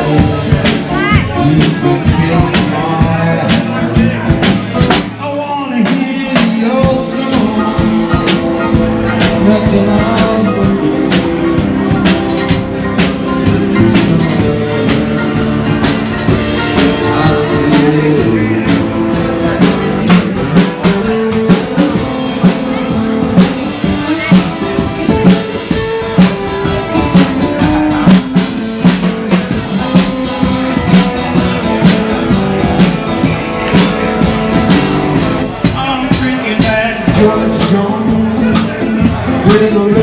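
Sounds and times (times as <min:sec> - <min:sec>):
acoustic guitar: 0:00.0 - 0:40.0
drum kit steady beat: 0:00.0 - 0:40.0.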